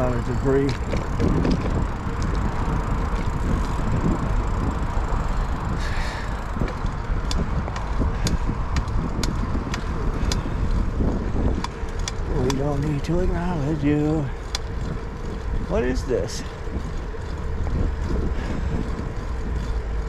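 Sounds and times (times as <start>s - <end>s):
bicycle rolling on pavement: 0.0s - 20.0s.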